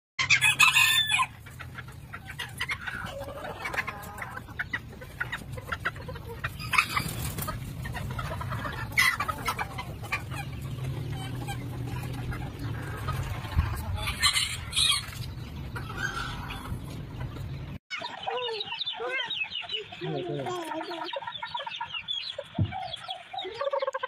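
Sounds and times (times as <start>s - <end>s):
roosters clucking and calling: 0.2s - 24.0s.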